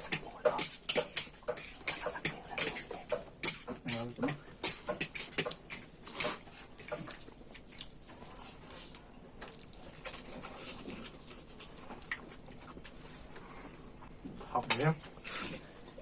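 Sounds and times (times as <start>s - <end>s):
eating smacks and slurps: 0.0s - 13.0s.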